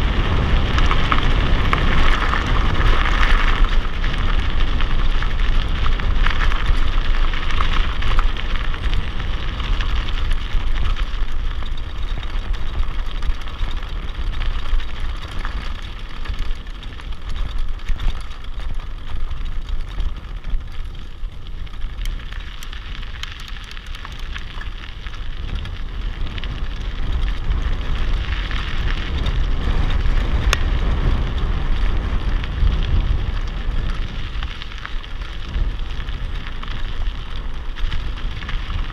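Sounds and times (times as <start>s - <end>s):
bike tyres crackling on gravel: 0.0s - 38.9s
wind buffeting microphone: 0.0s - 38.9s.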